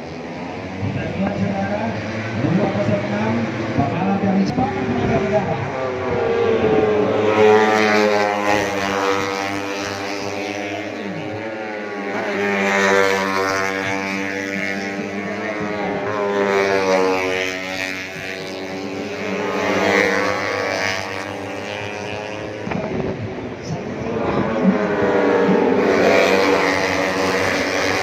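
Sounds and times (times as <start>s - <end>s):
motorcycle engines revving high: 0.0s - 28.0s.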